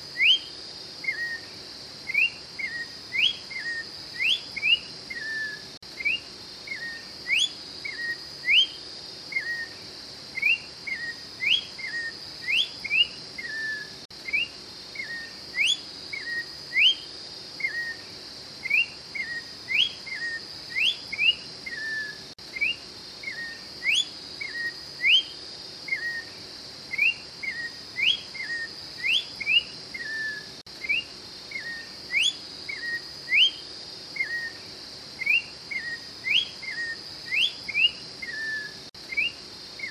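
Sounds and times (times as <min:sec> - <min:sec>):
steady high-pitched hiss: 0:00.0 - 0:39.9
bird singing clear whistles: 0:00.1 - 0:09.8, 0:10.4 - 0:39.9.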